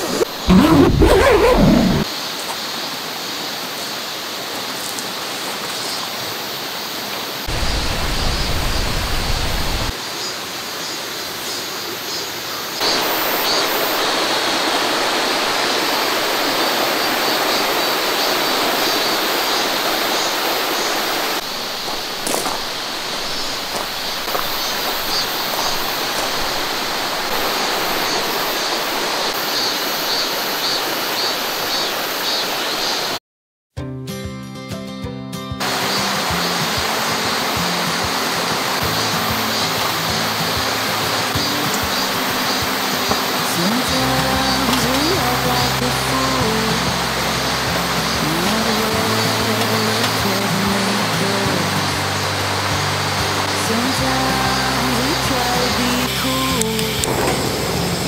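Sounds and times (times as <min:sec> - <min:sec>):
stream flowing: 0:00.0 - 0:33.2, 0:35.6 - 0:58.0.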